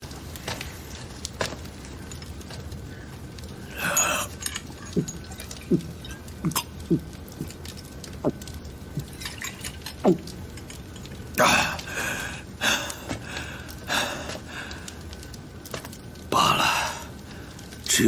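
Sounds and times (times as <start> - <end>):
water dripping: 0.0 - 18.0.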